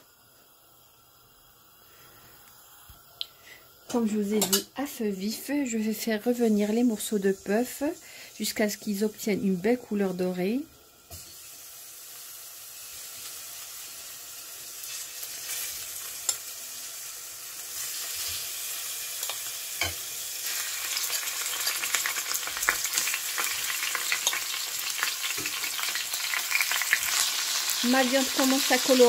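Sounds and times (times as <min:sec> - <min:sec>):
meat sizzling in hot oil: 0:03.4 - 0:29.0.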